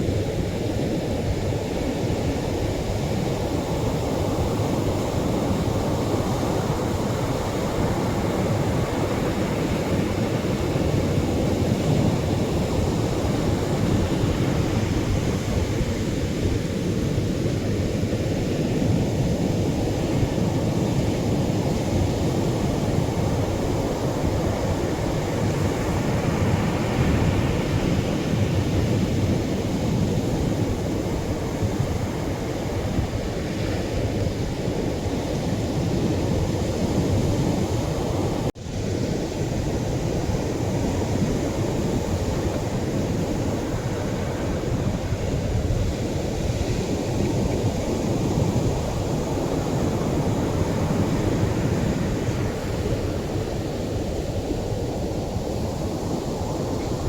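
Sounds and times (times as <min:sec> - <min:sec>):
surf washing onto shore: 0:00.0 - 0:57.0.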